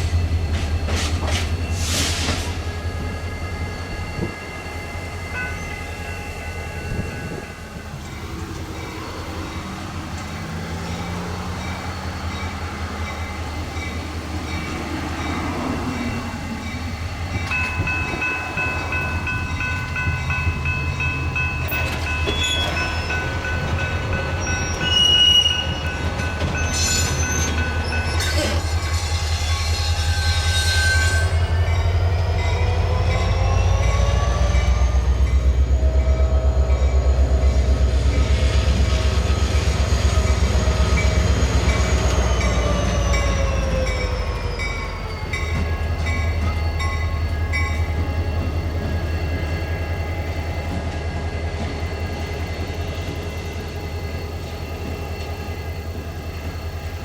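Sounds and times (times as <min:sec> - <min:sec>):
diesel train engine rumble: 0:00.0 - 0:57.0.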